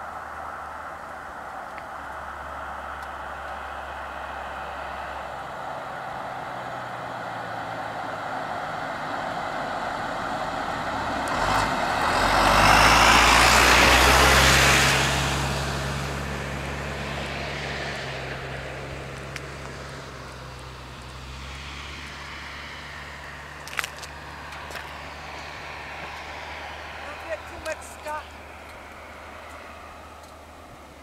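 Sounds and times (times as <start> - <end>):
low engine hum: 0.0 - 31.0
motor vehicle passing: 0.0 - 31.0.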